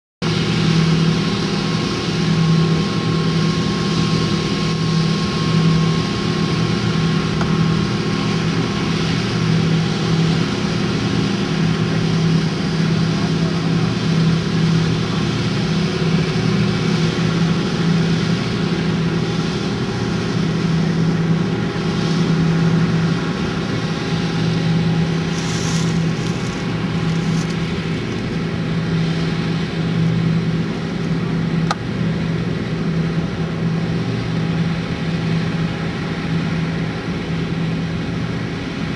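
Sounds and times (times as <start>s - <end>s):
combine harvester running: 0.2s - 38.9s.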